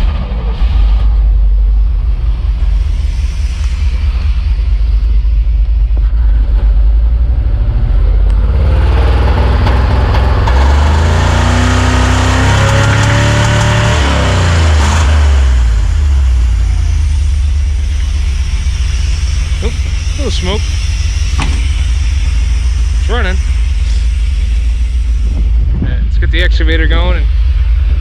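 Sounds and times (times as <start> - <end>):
truck engine revving and idling: 0.0 - 28.0.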